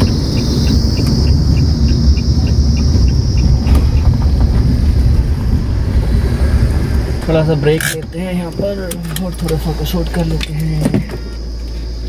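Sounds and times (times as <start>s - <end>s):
engine and tyre rumble: 0.0s - 12.0s
steady high hiss: 0.0s - 12.0s.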